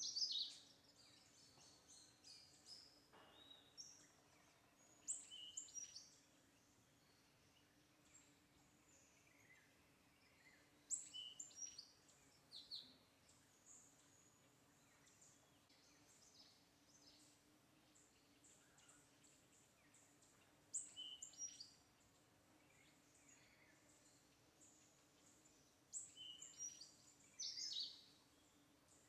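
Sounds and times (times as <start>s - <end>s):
birds chirping: 0.0s - 29.0s
low steady hum: 0.0s - 29.0s.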